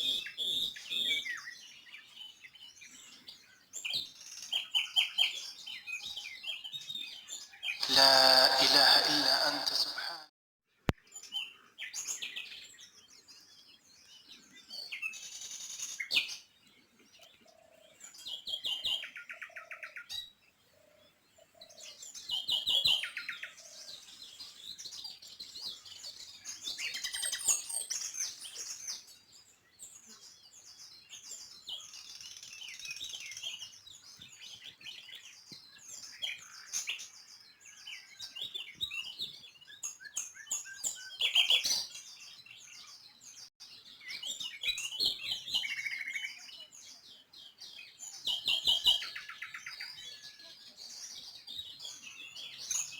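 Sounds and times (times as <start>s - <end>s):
small birds chirping and singing: 0.0s - 10.0s, 10.7s - 52.9s.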